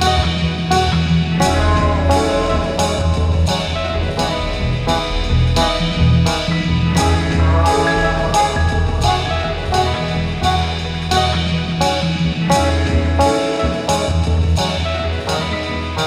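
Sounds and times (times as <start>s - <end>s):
background music with drum beat: 0.0s - 16.0s.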